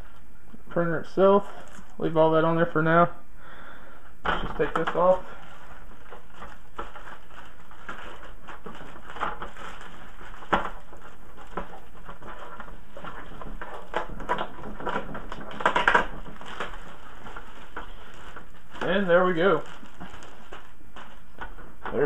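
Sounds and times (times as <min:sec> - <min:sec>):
crackles: 0:00.0 - 0:22.0
plastic crinkling and rustling: 0:01.4 - 0:02.1, 0:04.3 - 0:22.0.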